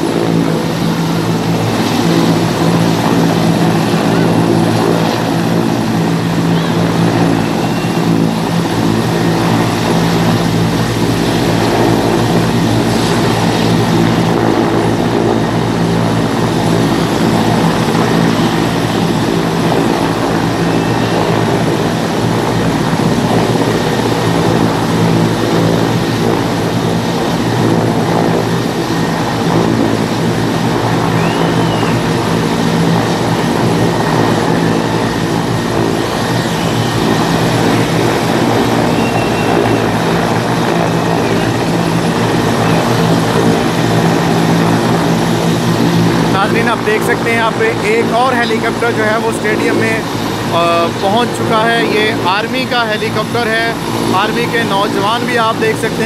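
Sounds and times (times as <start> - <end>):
helicopter hovering: 0.0 - 56.0
rotor downwash rushing: 0.0 - 56.0.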